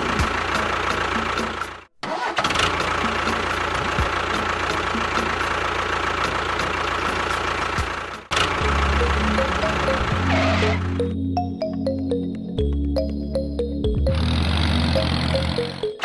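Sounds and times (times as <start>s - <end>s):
engine idling: 0.0s - 11.2s, 14.0s - 15.9s.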